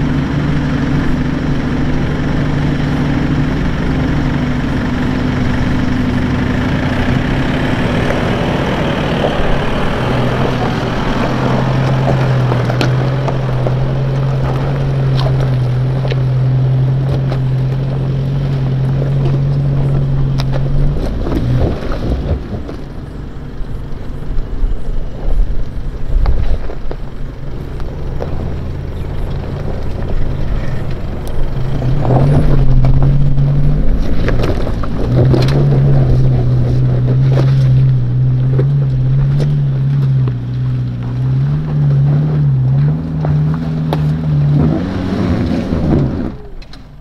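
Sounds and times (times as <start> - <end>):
diesel engine pulling: 0.0 - 47.0
stones cracking under tyres: 1.0 - 47.0.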